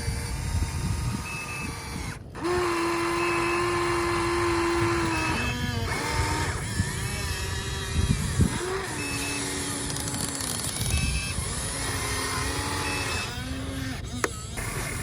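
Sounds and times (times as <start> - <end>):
electric motors and hydraulic pump whining: 0.0 - 15.0.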